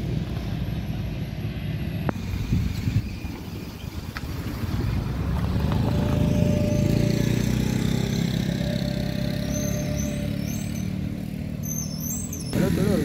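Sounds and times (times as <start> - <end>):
vehicle engine rumbling past: 0.0 - 13.0.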